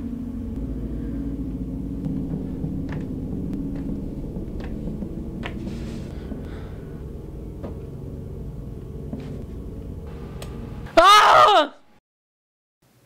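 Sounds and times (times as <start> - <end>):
dark ambient drone: 0.0 - 11.2.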